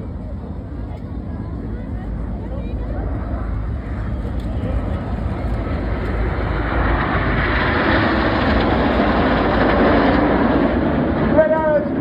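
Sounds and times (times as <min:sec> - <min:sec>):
jet aircraft passing overhead: 0:00.0 - 0:12.0.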